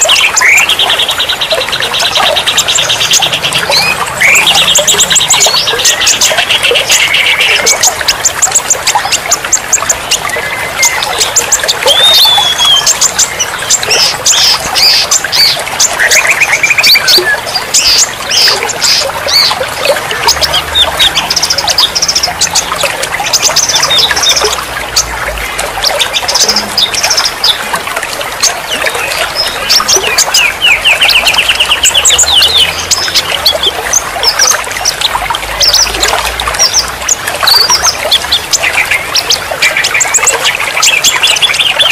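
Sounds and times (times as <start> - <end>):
running water trickling: 0.0 - 41.9
songbirds chirping and trilling: 0.0 - 41.9.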